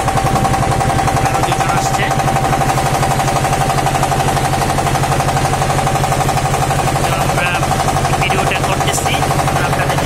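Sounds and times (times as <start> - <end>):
boat diesel engine running: 0.0 - 10.0.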